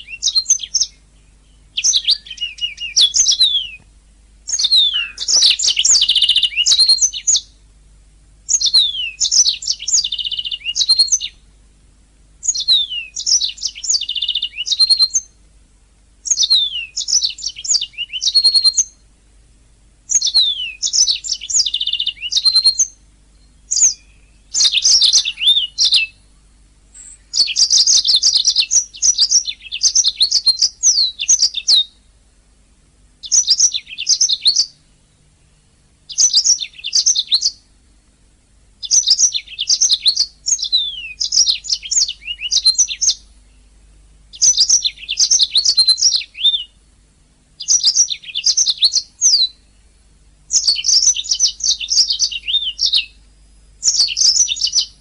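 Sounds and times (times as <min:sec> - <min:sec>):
canary singing trills: 0:00.0 - 0:11.6, 0:12.4 - 0:15.5, 0:16.2 - 0:19.2, 0:20.1 - 0:32.2, 0:33.2 - 0:38.1, 0:38.8 - 0:55.0.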